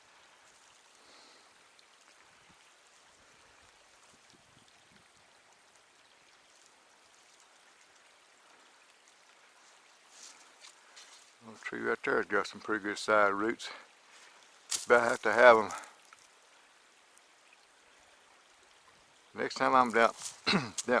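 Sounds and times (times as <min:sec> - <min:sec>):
creek trickling: 0:00.0 - 0:21.0.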